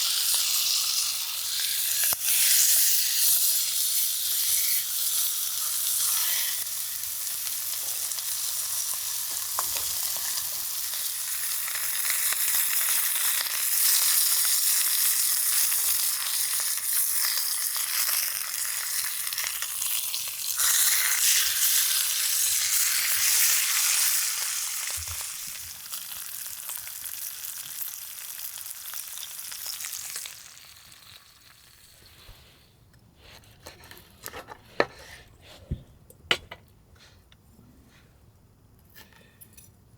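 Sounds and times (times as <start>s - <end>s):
food sizzling in a hot pan: 0.0s - 32.1s.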